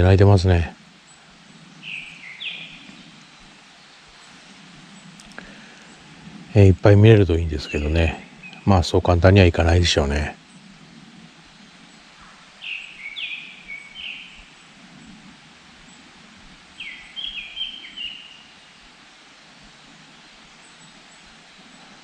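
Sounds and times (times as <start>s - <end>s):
thrush whistling song: 0.9s - 22.0s.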